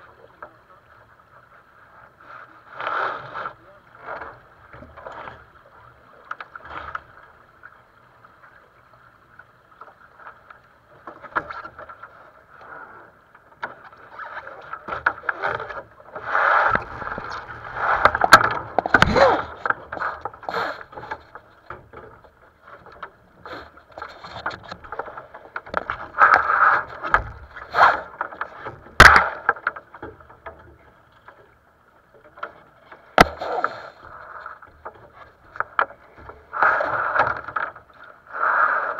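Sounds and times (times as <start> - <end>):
water rushing against hull: 0.0 - 38.9.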